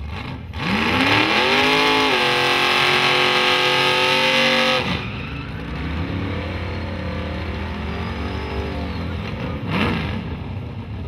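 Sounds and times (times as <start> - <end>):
drag-race engine revving high: 0.0 - 10.9
pickup engine rumble during burnout: 0.0 - 11.0.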